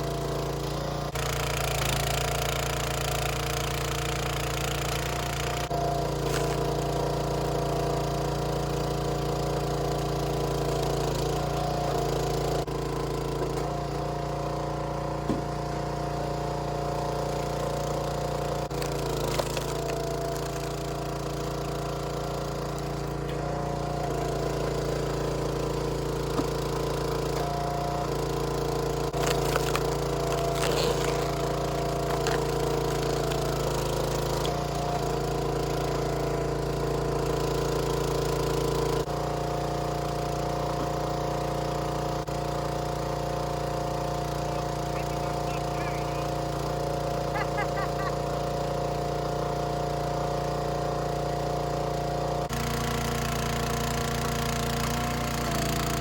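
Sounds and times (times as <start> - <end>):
small gasoline engine running: 0.0 - 56.0.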